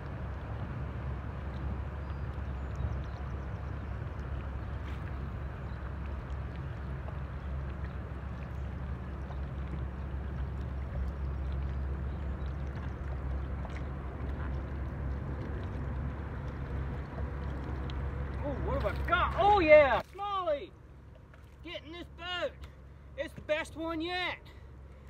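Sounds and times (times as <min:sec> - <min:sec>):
boat motor humming: 0:00.0 - 0:25.0
water wash: 0:00.0 - 0:25.0.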